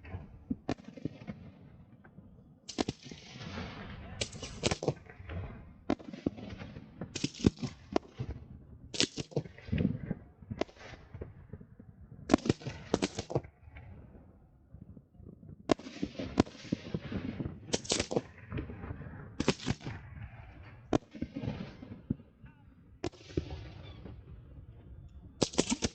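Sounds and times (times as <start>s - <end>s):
fireworks bangs and cracks: 0.0s - 25.9s.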